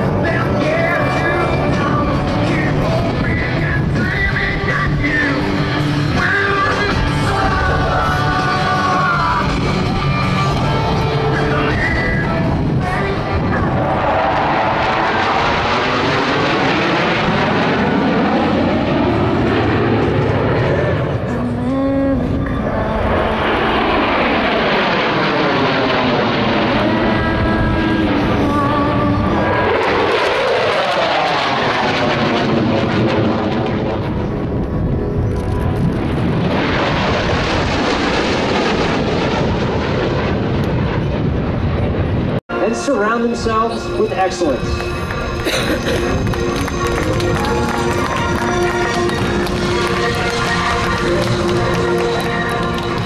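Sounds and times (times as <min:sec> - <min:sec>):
airplane flying past: 0:00.0 - 0:53.0.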